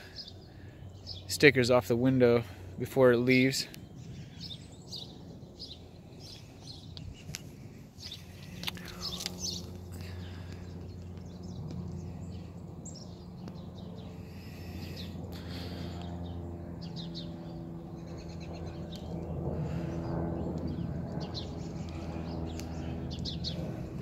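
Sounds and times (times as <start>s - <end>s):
songbirds chirping: 0.0s - 24.0s
steady low hum: 0.0s - 24.0s.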